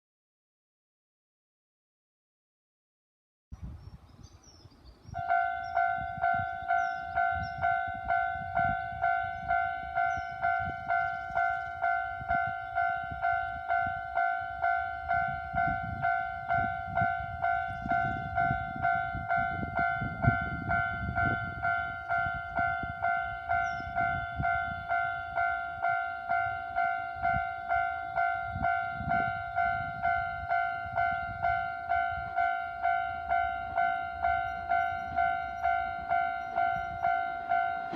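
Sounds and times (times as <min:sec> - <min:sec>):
train rumble: 0:05.1 - 0:37.9
level-crossing warning bell: 0:05.2 - 0:37.9.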